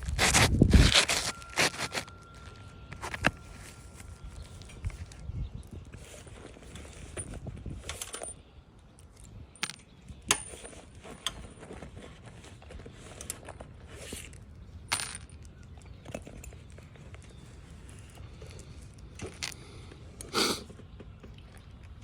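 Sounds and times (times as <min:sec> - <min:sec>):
light scraping and rustling: 0:00.0 - 0:08.4, 0:10.4 - 0:21.7.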